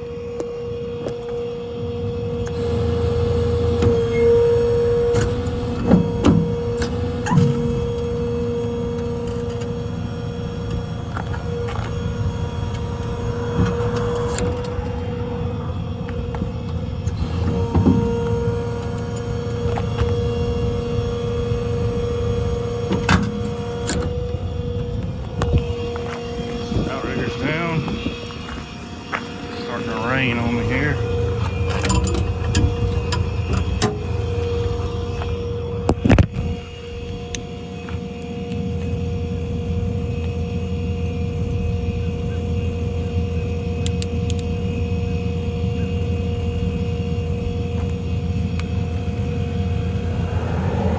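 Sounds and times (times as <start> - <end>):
hydraulic pump whine: 0.0 - 50.9
low engine rumble: 0.0 - 50.9.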